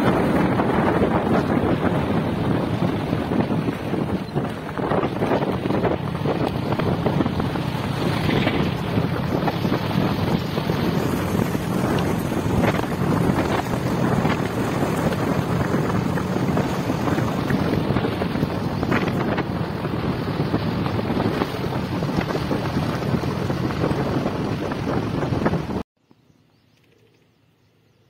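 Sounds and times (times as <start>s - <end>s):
wind buffeting microphone: 0.0s - 25.8s
vehicle on gravel road: 0.0s - 27.9s.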